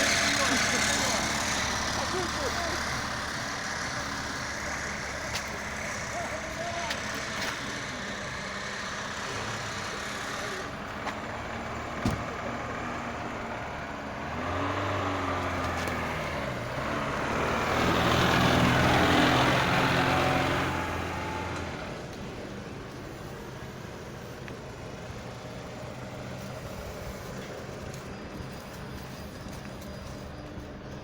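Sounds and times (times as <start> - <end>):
vehicle driving past: 0.0 - 30.4.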